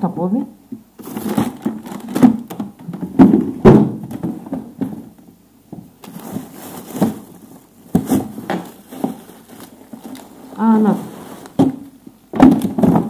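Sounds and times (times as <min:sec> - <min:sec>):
frozen packages knocking: 0:01.0 - 0:13.0
plastic bags rustling: 0:01.0 - 0:13.0.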